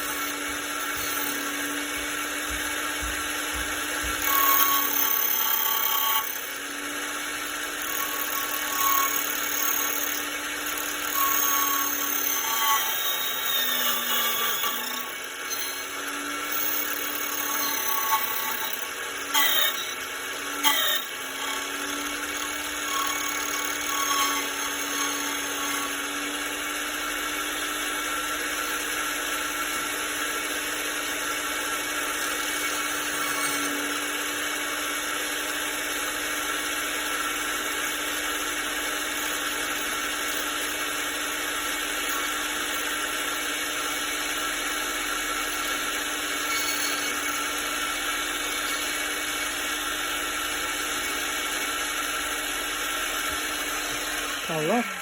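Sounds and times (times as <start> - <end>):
key cutting machine running: 0.0 - 55.0.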